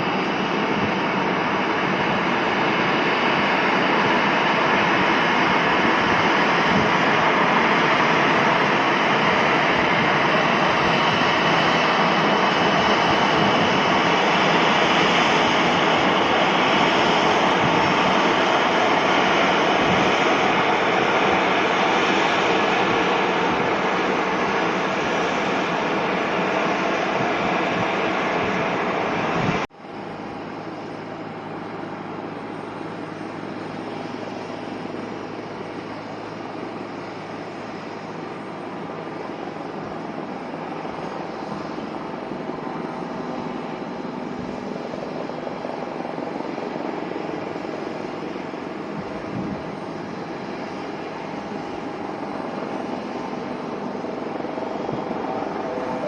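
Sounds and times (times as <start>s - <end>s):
airliner engine rushing: 0.0s - 56.0s
engine low hum: 0.0s - 56.0s.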